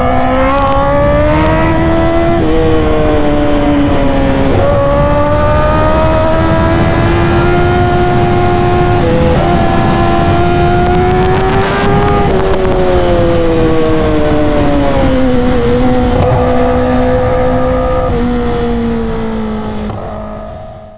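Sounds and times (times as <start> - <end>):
motorcycle engine at high revs: 0.0 - 20.9.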